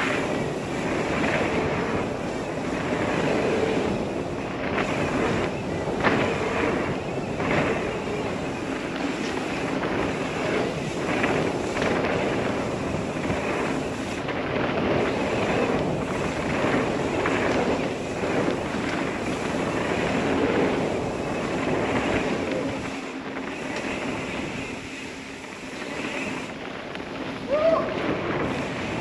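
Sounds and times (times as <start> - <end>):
bike rattling over bumps: 0.0 - 29.0
bike tyre noise on dirt: 0.0 - 29.0
wind rushing over microphone: 0.0 - 29.0.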